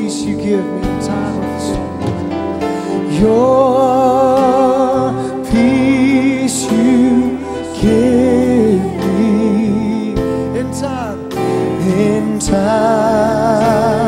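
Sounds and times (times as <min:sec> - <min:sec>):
instrumental accompaniment: 0:00.0 - 0:14.0
person singing with vibrato: 0:00.0 - 0:14.0.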